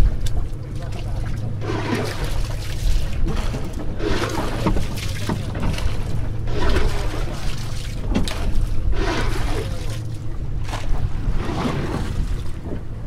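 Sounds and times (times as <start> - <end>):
steady low hum: 0.0 - 13.0
water splashing against boat: 0.0 - 13.0.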